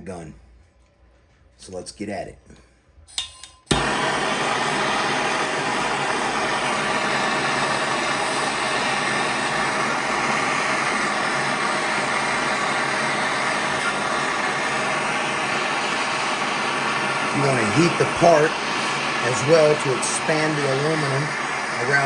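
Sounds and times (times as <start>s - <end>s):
gas torch hissing: 3.7s - 22.0s.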